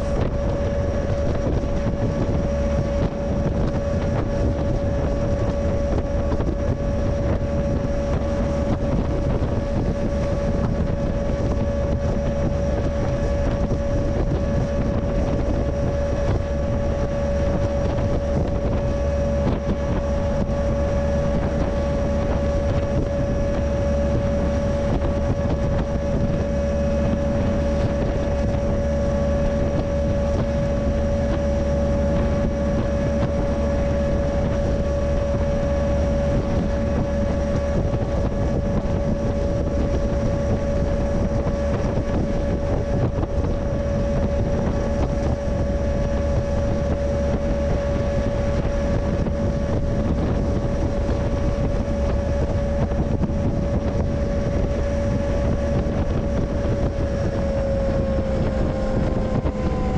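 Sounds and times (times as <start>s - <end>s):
freight train rumble: 0.0s - 59.9s
wind noise: 0.0s - 59.9s.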